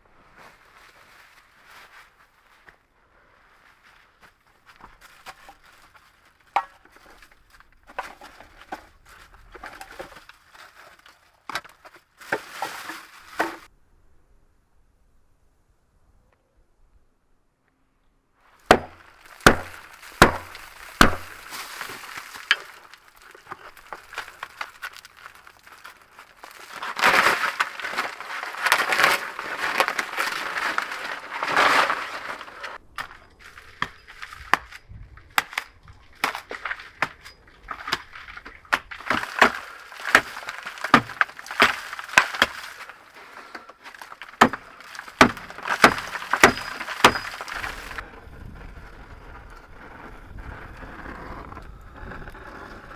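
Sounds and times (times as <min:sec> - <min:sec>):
crunching and rustling: 0:00.1 - 0:13.7, 0:18.5 - 0:48.7.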